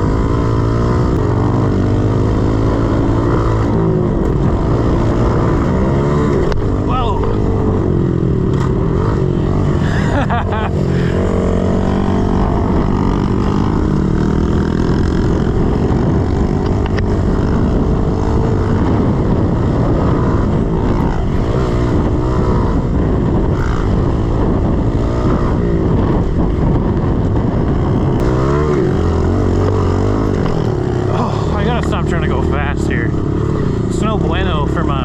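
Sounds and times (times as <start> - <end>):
motorbike engine revving: 0.0 - 35.0.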